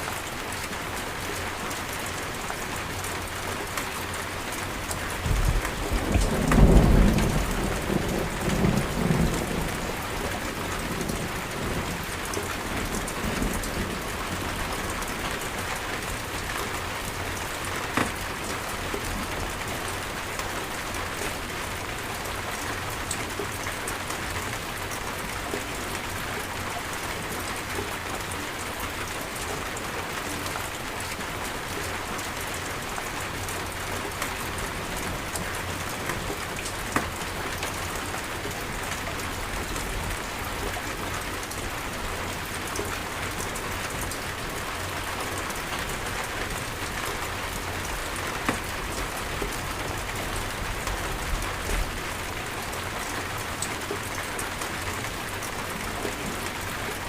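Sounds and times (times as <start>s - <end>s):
rain pouring: 0.0s - 57.0s.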